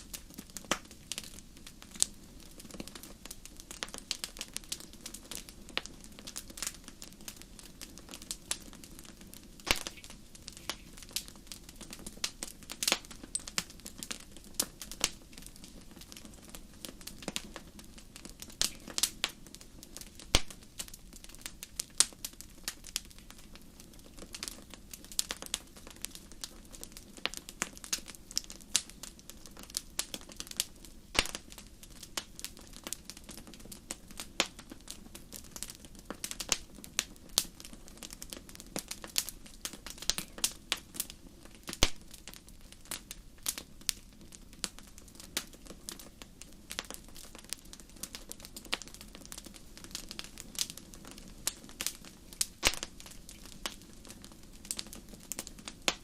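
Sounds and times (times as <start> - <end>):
low rush of flames: 0.0 - 56.0
wood fire crackling and popping: 0.0 - 56.0.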